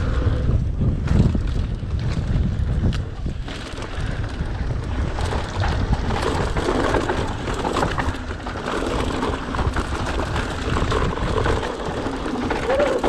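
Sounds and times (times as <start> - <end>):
bike rattling over bumps: 0.0 - 13.0
wind buffeting microphone: 0.0 - 13.0
tyres crunching over dirt: 1.0 - 13.0.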